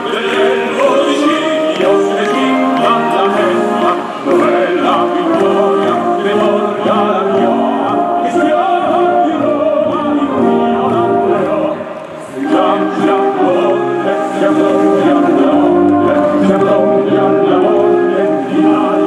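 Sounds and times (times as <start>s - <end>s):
operatic singing with choir: 0.0s - 19.0s
orchestra playing: 0.0s - 19.0s.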